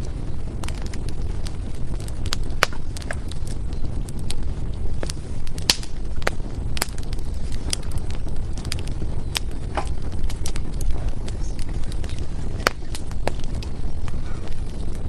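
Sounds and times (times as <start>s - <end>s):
firewood crackling and popping: 0.0s - 15.0s.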